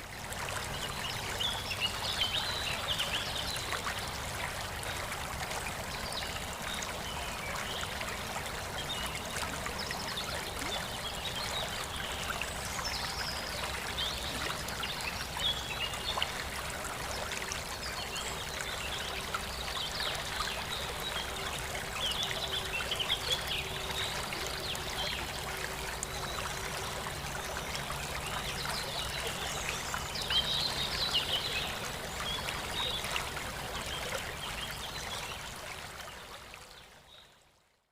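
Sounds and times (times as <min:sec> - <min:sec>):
water trickling and splashing: 0:00.0 - 0:37.4.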